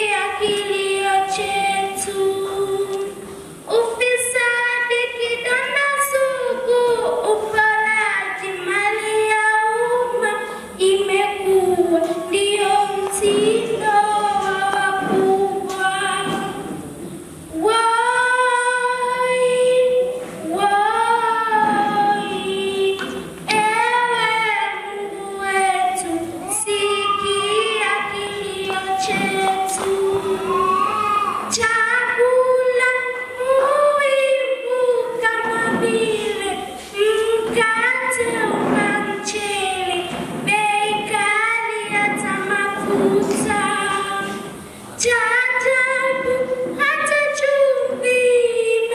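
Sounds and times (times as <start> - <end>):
girl singing into a microphone: 0.0 - 48.9.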